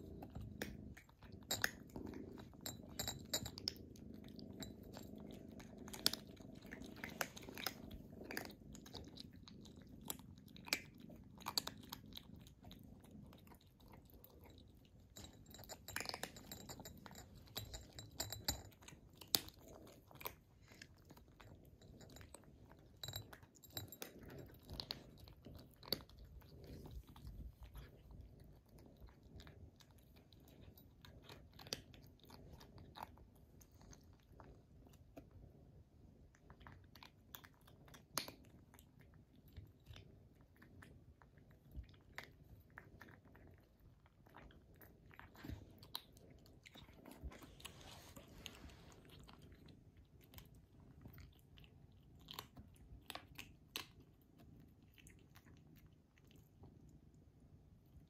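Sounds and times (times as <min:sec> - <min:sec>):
kittens chewing: 0:00.0 - 0:58.0.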